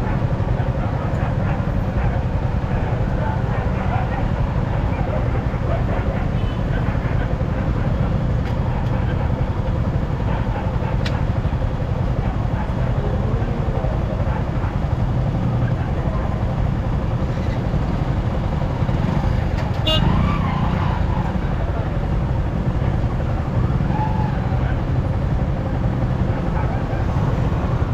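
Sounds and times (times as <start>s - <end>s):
motorcycle engine rumble: 0.1s - 27.9s.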